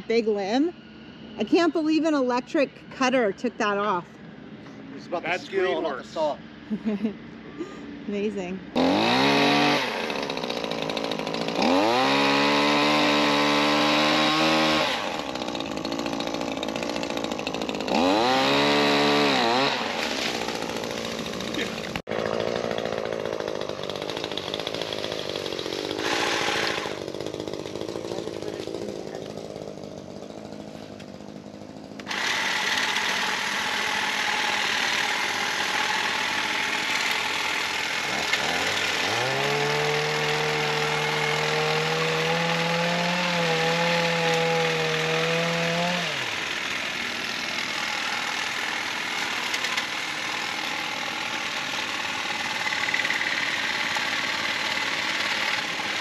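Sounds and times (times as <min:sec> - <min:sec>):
saw motor whining: 0:07.7 - 0:56.0
electric saw cutting branches: 0:08.2 - 0:56.0.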